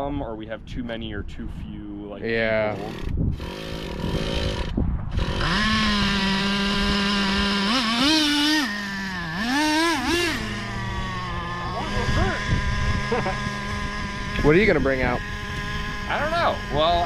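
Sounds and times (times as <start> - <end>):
small engine revving: 2.4 - 17.0.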